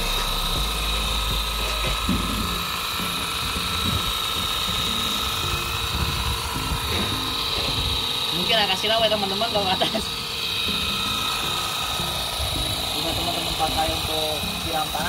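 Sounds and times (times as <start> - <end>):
pump motor whine: 0.0 - 15.0
water jet hissing: 0.0 - 15.0.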